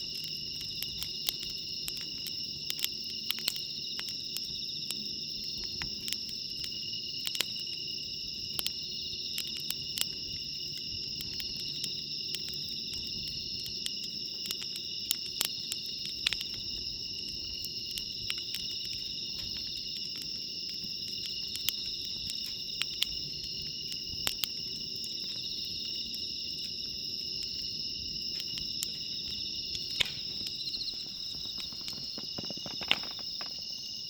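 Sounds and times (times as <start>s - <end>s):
campfire crackling and popping: 0.0s - 34.0s
crickets trilling: 0.0s - 34.0s.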